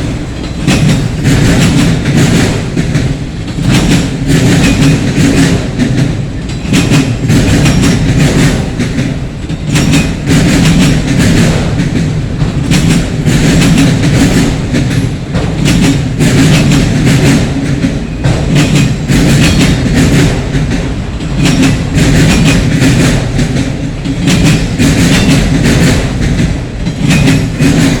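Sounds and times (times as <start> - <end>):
freight train rumbling past: 0.0 - 28.0
wheels clacking over rail joints: 0.0 - 28.0.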